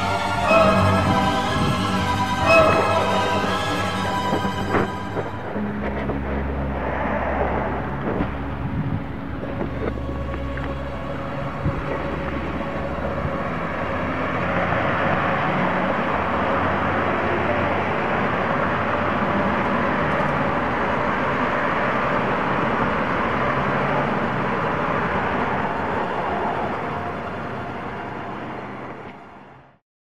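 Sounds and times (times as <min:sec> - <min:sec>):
road traffic rushing: 0:00.0 - 0:29.8.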